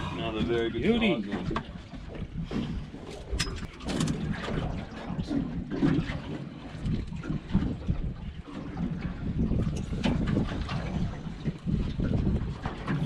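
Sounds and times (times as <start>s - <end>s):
water lapping around boat: 0.0s - 13.0s
wind on microphone: 0.0s - 13.0s.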